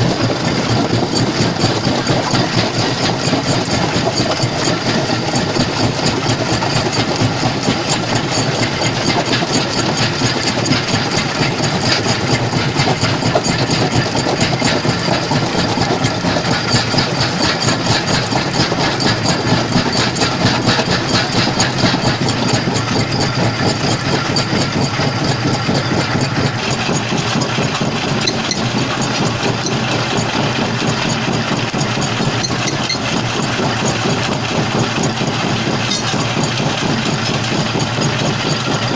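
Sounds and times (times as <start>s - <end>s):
stone crusher machine droning: 0.0s - 38.9s.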